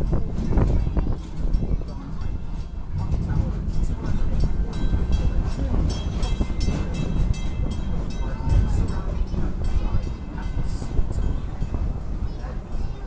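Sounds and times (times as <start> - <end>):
rail car wheels rumbling: 0.0 - 13.0.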